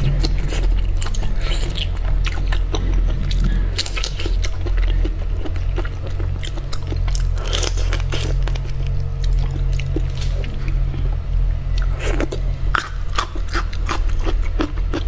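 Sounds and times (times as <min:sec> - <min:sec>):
biting and chewing prawn: 0:00.0 - 0:15.0
steady low hum: 0:00.0 - 0:15.0.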